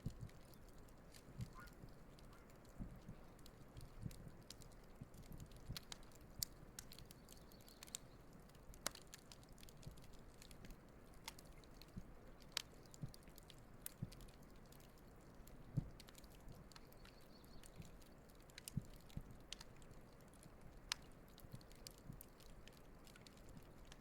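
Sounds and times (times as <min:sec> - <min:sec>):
campfire crackling and popping: 0:00.0 - 0:24.0
faint steady hiss: 0:00.0 - 0:24.0.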